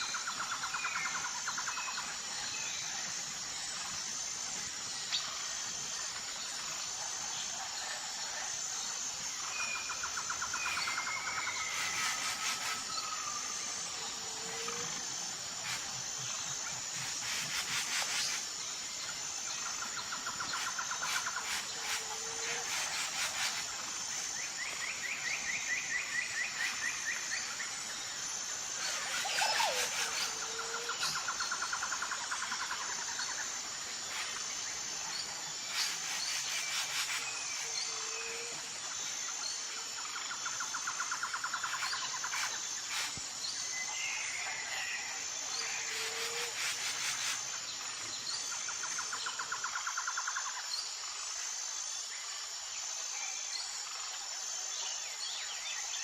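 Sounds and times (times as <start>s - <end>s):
bird and insect trills: 0.0s - 56.0s
high insect drone: 0.0s - 56.0s.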